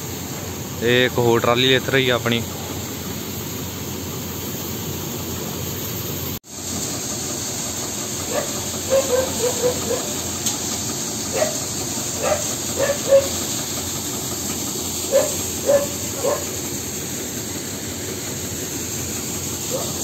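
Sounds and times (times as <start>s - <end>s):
steady machine hiss: 0.0s - 20.0s.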